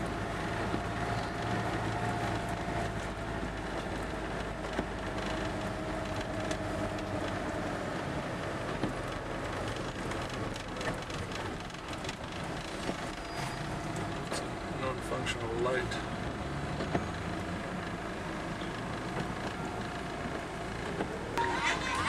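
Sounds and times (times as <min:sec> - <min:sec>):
vehicle engine and tyre rumble: 0:00.0 - 0:22.0.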